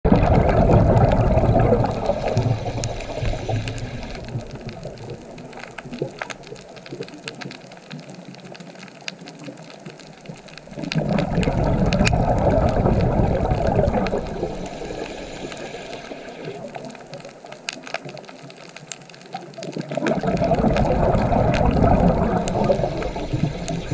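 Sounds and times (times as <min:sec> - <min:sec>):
underwater exhaled bubbles rushing: 0:00.0 - 0:08.6, 0:09.2 - 0:18.6, 0:19.2 - 0:23.9.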